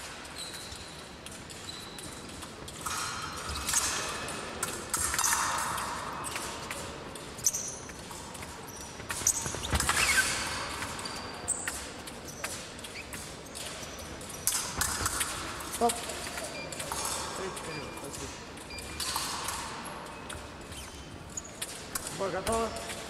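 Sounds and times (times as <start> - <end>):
fencing blades clashing: 0.0 - 23.0.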